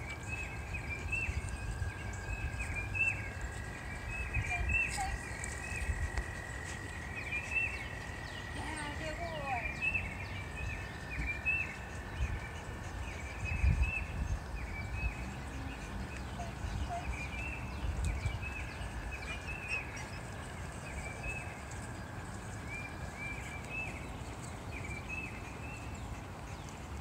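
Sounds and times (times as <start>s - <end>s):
high chirping calls: 0.0s - 21.8s
wind rumbling on microphone: 0.0s - 27.0s.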